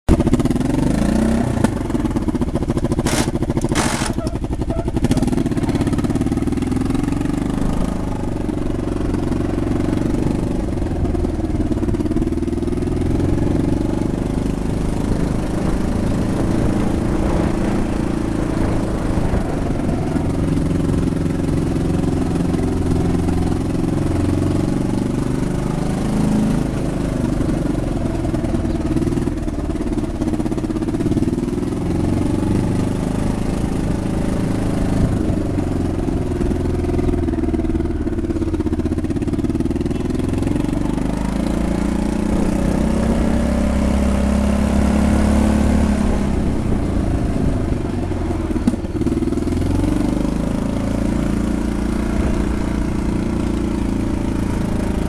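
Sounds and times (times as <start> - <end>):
quad bike engine running: 0.1 - 55.0.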